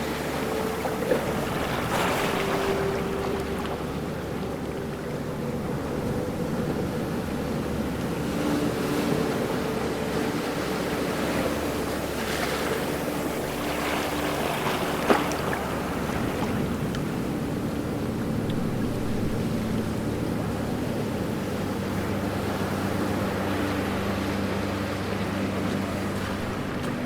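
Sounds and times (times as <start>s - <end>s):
ocean waves washing: 0.0s - 27.0s.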